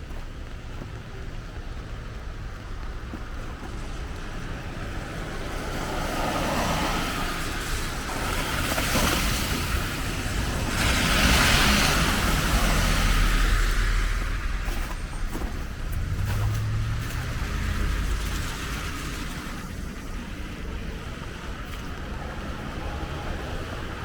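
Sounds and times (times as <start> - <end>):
car tyres hissing on wet road: 1.0 - 24.0.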